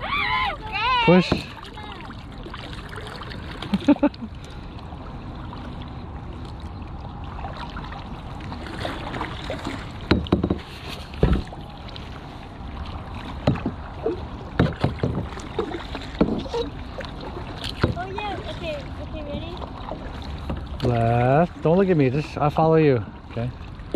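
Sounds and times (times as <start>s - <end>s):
paddle strokes splashing: 0.0s - 23.9s
rushing water: 0.0s - 23.9s
wind: 0.0s - 23.9s.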